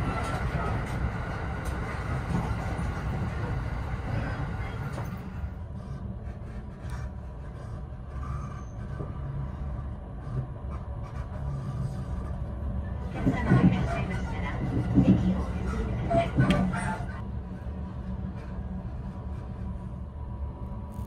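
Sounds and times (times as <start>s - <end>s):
train rumbling from inside carriage: 0.0s - 21.0s.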